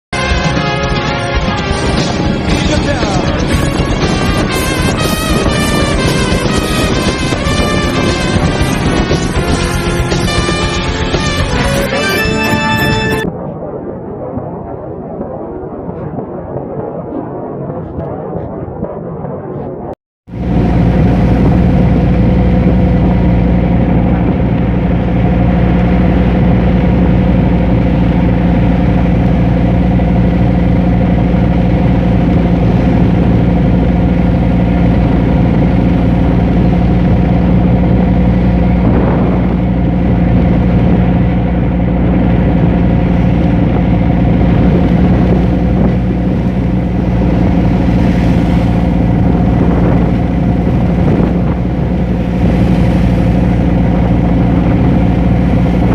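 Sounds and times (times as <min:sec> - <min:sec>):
boat engine droning: 0:00.2 - 0:13.4, 0:20.3 - 0:55.9.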